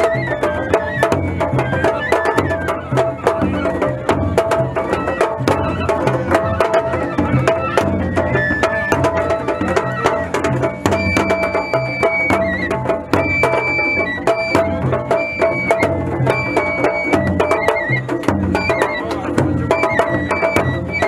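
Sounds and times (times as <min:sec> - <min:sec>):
high melody of held notes: 0:00.0 - 0:21.0
taiko drum beaten fast: 0:00.0 - 0:21.0.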